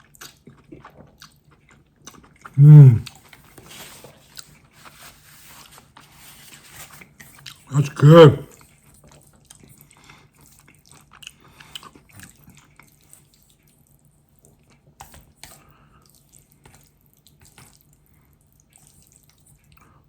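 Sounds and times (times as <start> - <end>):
person chewing noodles: 0.0 - 3.5, 7.2 - 20.0.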